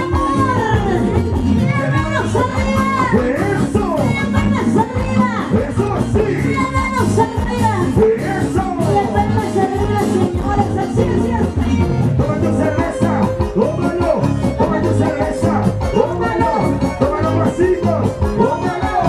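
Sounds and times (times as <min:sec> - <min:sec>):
dance music with singing: 0:00.0 - 0:19.0.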